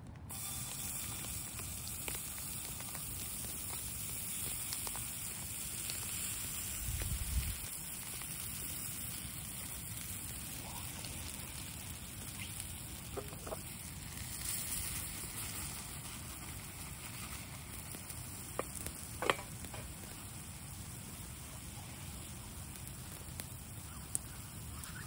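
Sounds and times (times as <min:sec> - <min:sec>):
batter sizzling in hot oil: 0:00.2 - 0:25.0
oil popping: 0:00.2 - 0:25.0.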